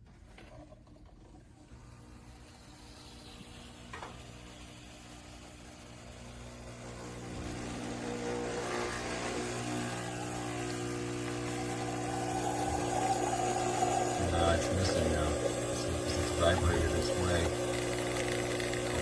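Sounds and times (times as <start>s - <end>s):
espresso machine pump humming: 1.3s - 19.0s.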